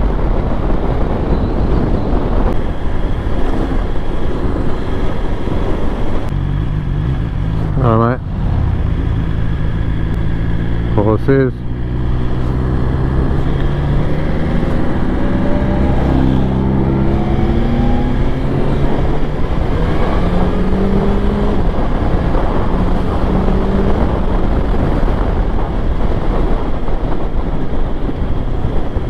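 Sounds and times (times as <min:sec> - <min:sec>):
wind and road noise: 0:00.0 - 0:29.0
motorcycle engine accelerating: 0:00.1 - 0:29.0.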